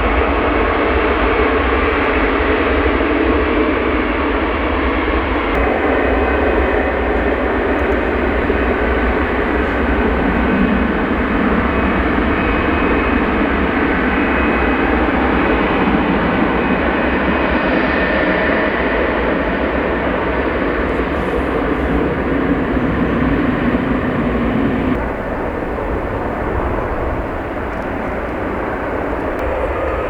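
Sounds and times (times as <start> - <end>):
jet engines running: 5.2 - 30.0.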